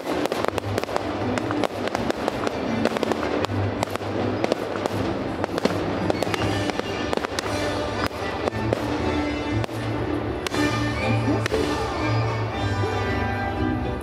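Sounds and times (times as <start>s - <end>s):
fireworks bangs and crackles: 0.0s - 12.6s
music: 0.0s - 14.0s.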